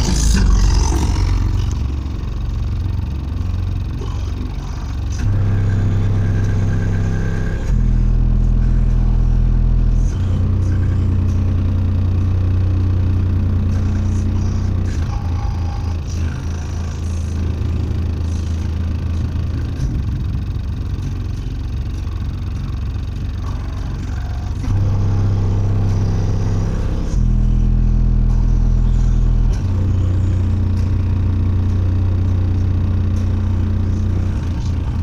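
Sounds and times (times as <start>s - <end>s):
deep bass notes from subwoofers: 0.0s - 35.0s.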